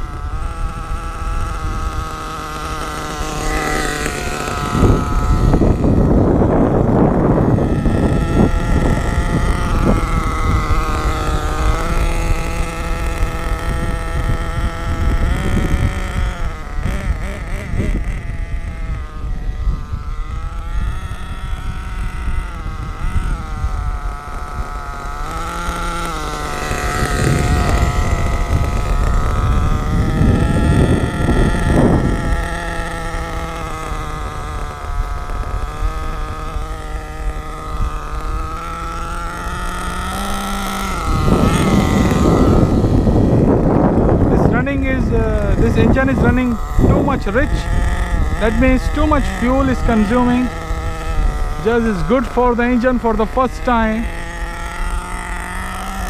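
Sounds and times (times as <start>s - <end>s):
nitro engine running: 0.0s - 56.0s.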